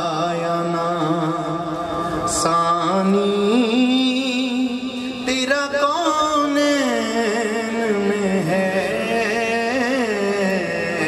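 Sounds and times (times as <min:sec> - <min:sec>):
man singing long held notes: 0:00.0 - 0:11.0.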